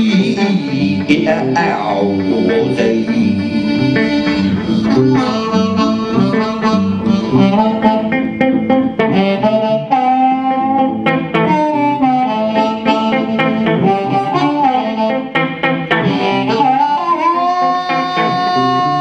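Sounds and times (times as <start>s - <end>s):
blues harmonica wailing: 0.0s - 19.0s
electric guitar accompaniment: 0.0s - 19.0s.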